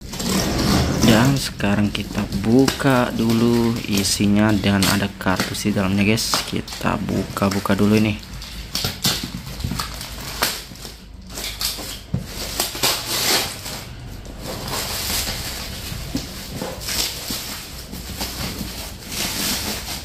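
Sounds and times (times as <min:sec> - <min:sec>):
plastic wrap tearing and crinkling: 0:00.0 - 0:20.0.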